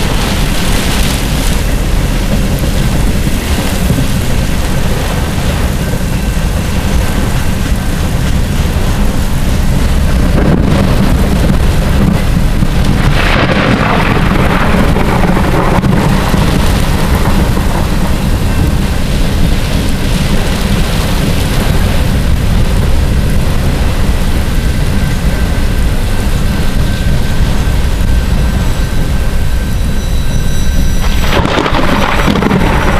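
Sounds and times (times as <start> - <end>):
freight train cars rumbling: 0.0 - 32.9
heavy rain: 0.0 - 32.9.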